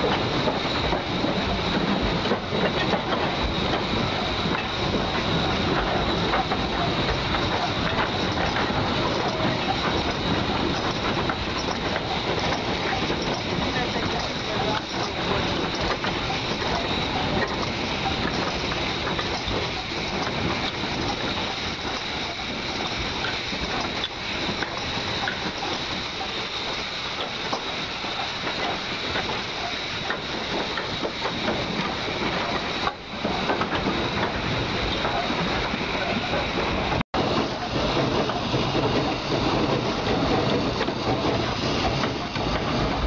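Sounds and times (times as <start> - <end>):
steam hiss: 0.0 - 43.0
wheels rattling on rails: 0.0 - 43.0.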